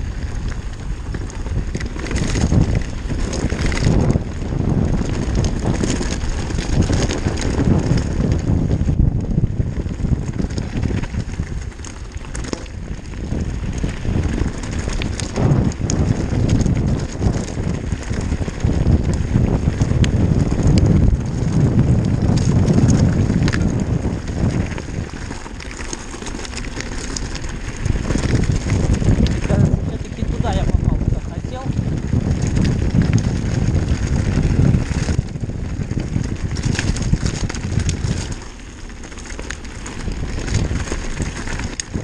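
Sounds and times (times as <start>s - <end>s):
bike rattling over rocks: 0.0s - 42.0s
wind rushing over microphone: 0.0s - 42.0s.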